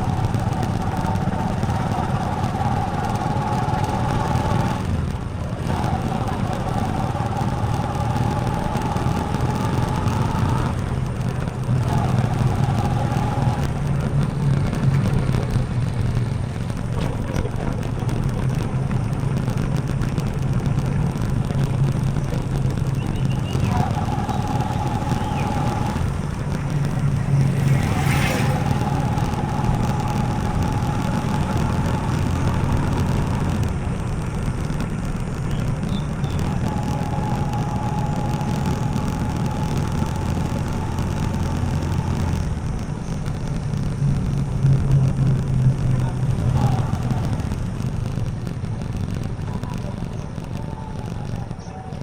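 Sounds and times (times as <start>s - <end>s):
motorcycle engine running: 0.0s - 52.0s
road noise: 0.0s - 52.0s
wind rumble on microphone: 0.0s - 52.0s.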